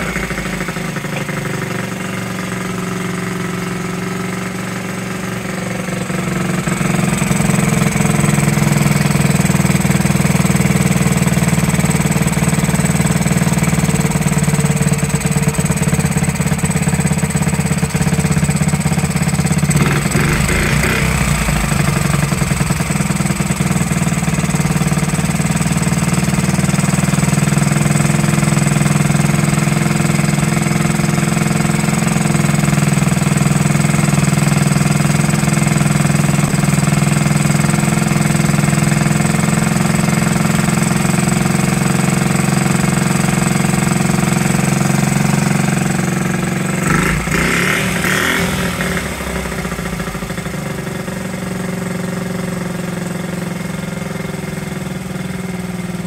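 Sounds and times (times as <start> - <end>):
small motorcycle engine idling: 0.0 - 56.0.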